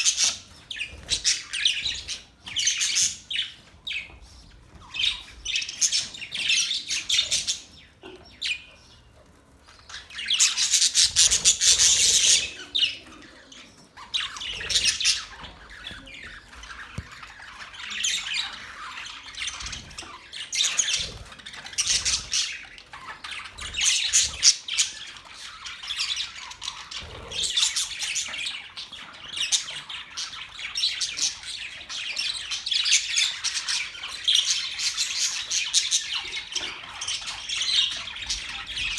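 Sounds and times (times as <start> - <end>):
budgerigars chattering and warbling: 0.0 - 38.9.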